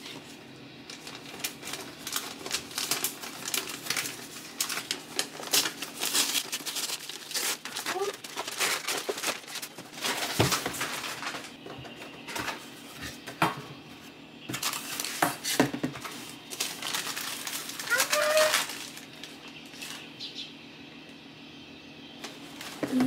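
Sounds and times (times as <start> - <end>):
tissue paper rustling: 0.0 - 13.2, 14.5 - 20.0.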